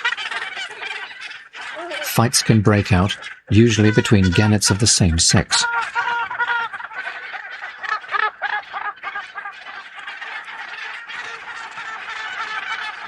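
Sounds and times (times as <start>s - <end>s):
gannet colony calling: 0.0s - 13.0s.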